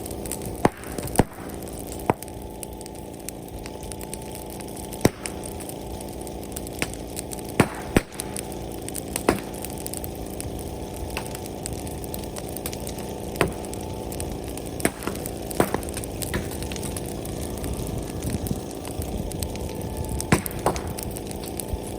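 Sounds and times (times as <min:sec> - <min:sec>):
bonfire crackling and popping: 0:00.0 - 0:21.9
steady rushing fire noise: 0:00.0 - 0:21.9.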